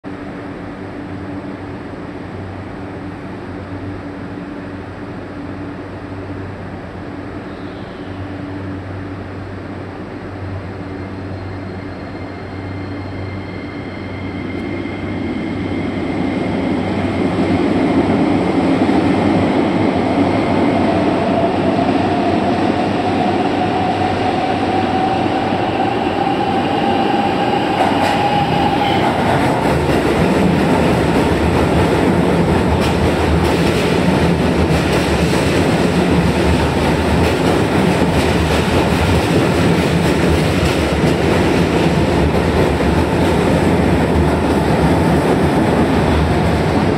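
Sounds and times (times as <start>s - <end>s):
electric train wheels rumbling: 0.1s - 46.9s.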